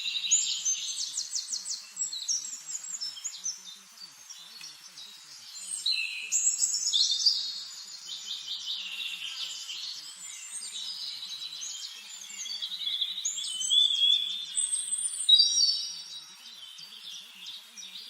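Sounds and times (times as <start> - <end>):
songbirds singing in chorus: 0.0 - 18.0.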